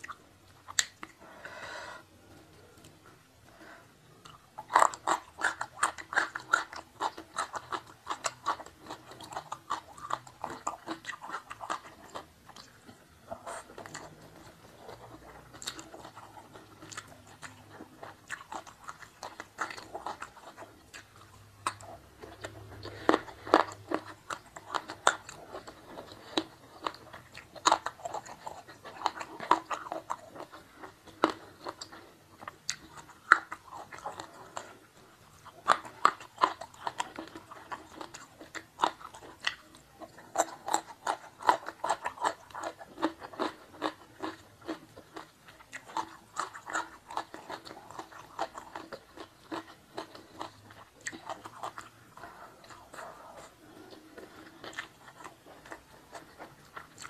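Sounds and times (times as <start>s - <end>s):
chewing crunchy raw vegetables: 0.0s - 1.4s, 2.2s - 57.0s.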